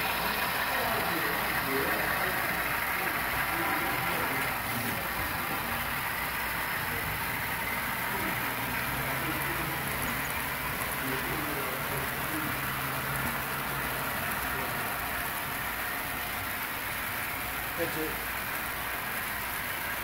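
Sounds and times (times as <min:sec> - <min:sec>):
model train cars rolling on track: 0:00.0 - 0:20.0.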